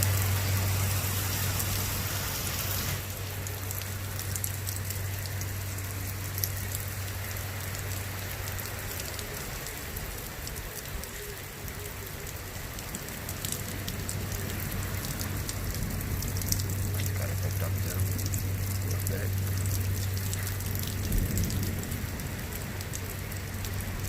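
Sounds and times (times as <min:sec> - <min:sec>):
constant low hum: 0:00.0 - 0:24.0
rain on a hard surface: 0:00.0 - 0:24.0.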